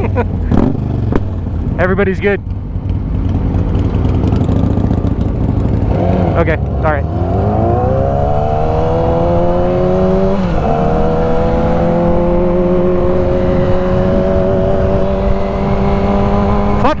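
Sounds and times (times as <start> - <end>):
motorcycle engine accelerating: 0.0 - 17.0
wind and road noise: 0.0 - 17.0.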